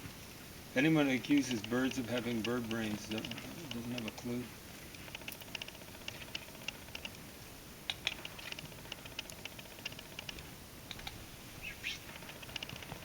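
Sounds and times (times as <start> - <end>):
low hiss: 0.0 - 13.0
songbirds chip notes: 0.8 - 13.0.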